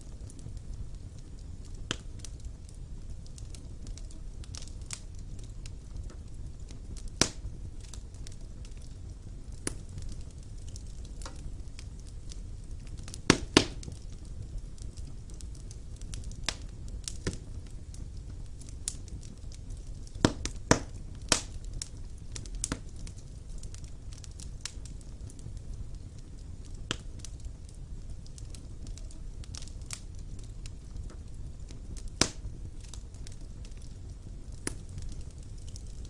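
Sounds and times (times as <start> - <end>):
fire crackling and popping: 0.0 - 36.0
wood fire flames rumbling: 0.0 - 36.0.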